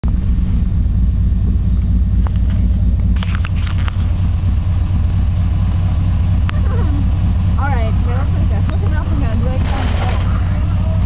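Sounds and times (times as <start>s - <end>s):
low rumble of towed bed: 0.0s - 11.0s.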